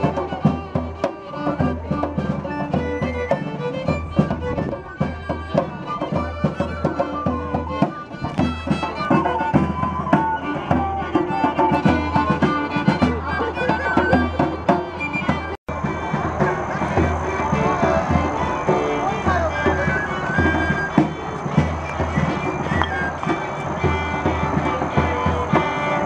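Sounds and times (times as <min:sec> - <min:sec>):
fiddle playing folk tune: 0:00.0 - 0:26.0
small wind instrument: 0:00.0 - 0:26.0
snare drum: 0:00.0 - 0:26.0.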